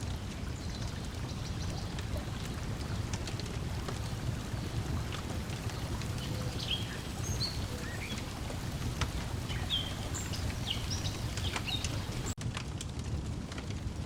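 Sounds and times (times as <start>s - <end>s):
small birds chirping: 0.0s - 12.4s
water lapping at a shore: 0.0s - 12.4s
wood fire crackling: 0.0s - 14.0s.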